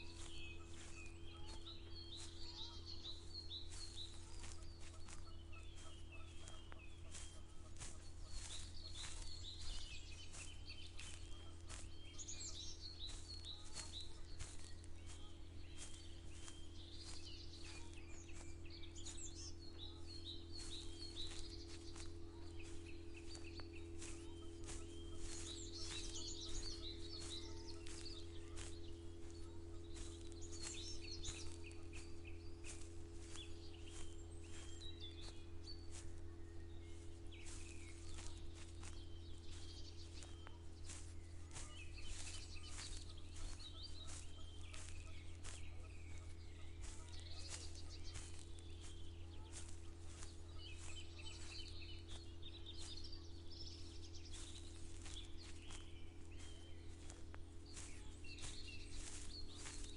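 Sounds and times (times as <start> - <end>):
small birds chirping: 0.0 - 59.9
soft footsteps: 0.0 - 59.9
steady low hum: 0.0 - 59.9.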